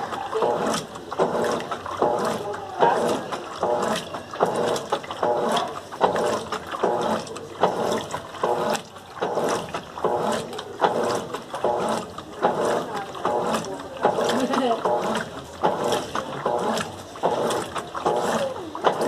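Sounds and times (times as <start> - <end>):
washing machine motor whining: 0.0 - 19.0
water sloshing: 0.0 - 19.0.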